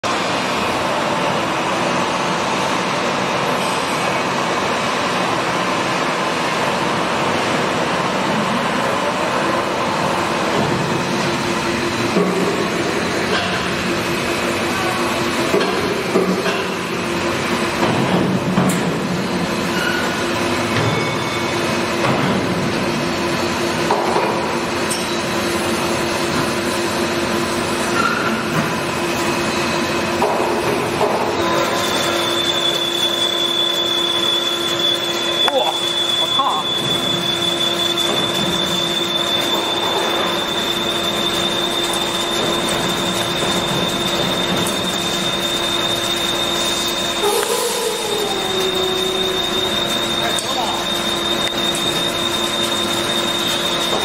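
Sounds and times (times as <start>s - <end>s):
lathe running: 0.0s - 28.0s, 28.7s - 54.0s.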